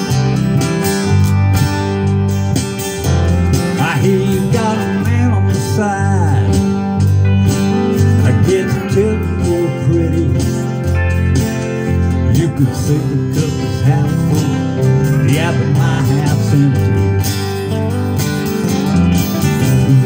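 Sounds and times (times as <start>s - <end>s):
acoustic guitar strummed: 0.0s - 20.0s
bass line: 0.0s - 20.0s.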